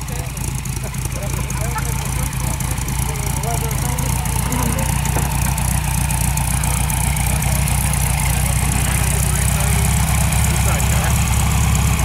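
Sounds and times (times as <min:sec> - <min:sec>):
trike engine idling: 0:00.0 - 0:12.0.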